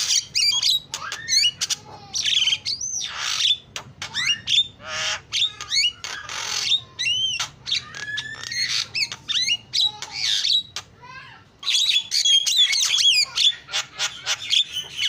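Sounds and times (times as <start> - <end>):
myna bird singing: 0.0 - 15.0.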